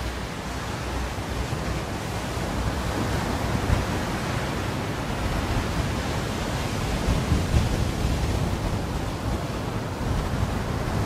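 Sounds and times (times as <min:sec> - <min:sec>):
surf washing onto beach: 0:00.0 - 0:11.0
wind on microphone: 0:00.0 - 0:11.0.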